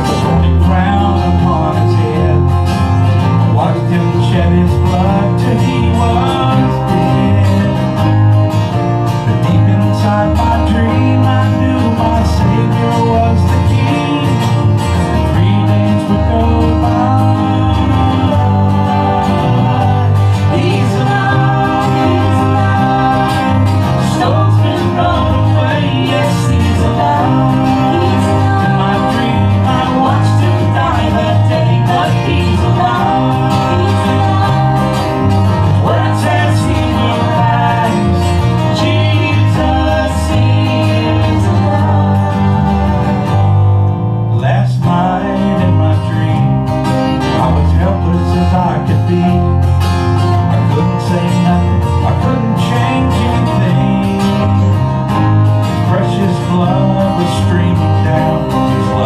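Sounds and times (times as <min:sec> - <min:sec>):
bass line: 0:00.0 - 0:59.0
strummed acoustic guitar: 0:00.0 - 0:59.0.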